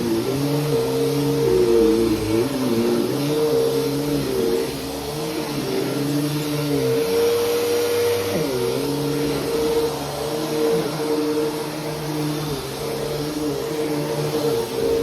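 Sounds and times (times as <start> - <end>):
upright vacuum cleaner motor hum: 0.0 - 15.0.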